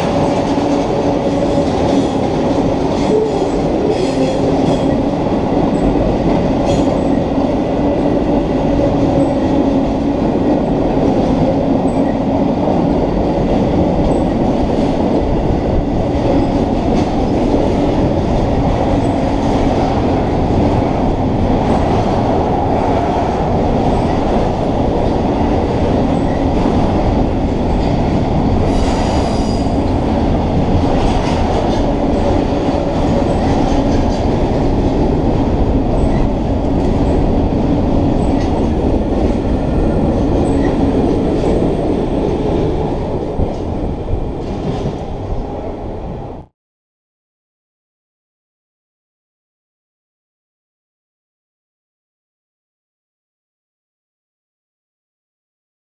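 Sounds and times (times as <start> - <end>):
train wheels rumbling on rail: 0.0 - 46.5.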